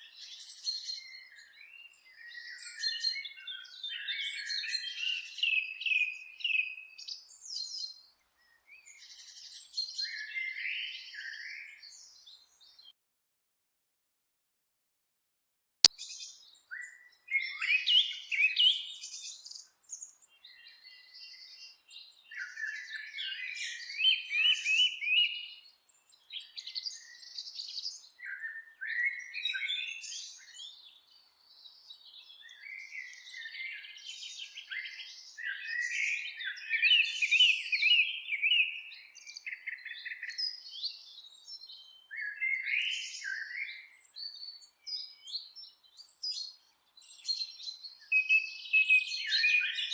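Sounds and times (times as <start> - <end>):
songbirds singing: 0.0 - 12.9, 15.8 - 49.9.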